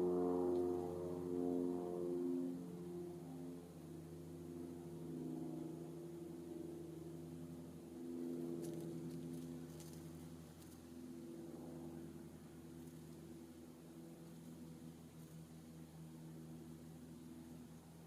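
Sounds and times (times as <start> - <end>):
distant motor humming: 0.0 - 18.0.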